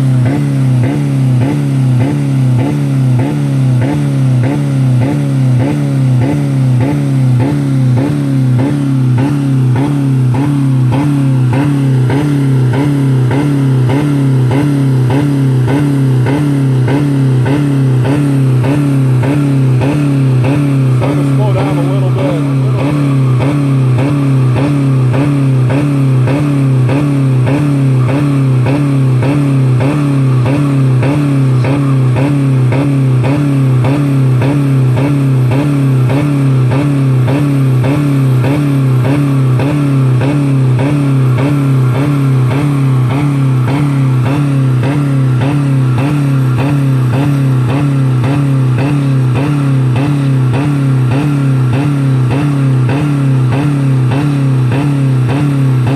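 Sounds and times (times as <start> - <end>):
car engine bouncing off rev limiter: 0.0 - 55.9.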